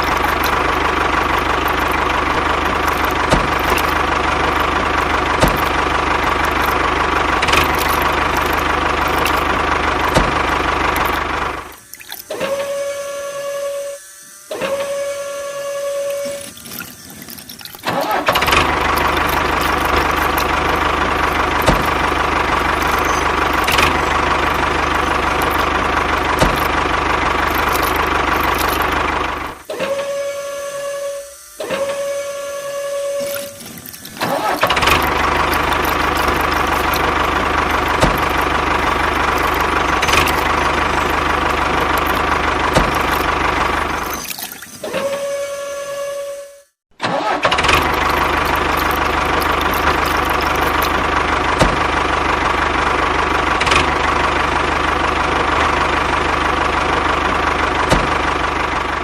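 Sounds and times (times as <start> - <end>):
small motor running: 0.0 - 46.4, 47.4 - 58.2.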